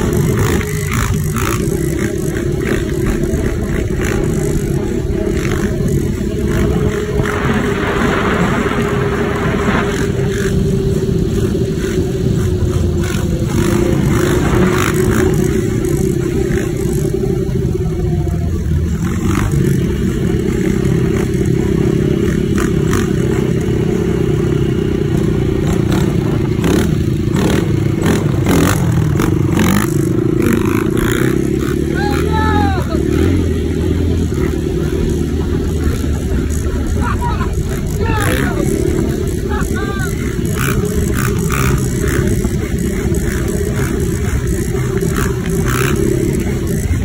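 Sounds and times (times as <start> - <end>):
atv engine running hard: 0.0 - 47.0.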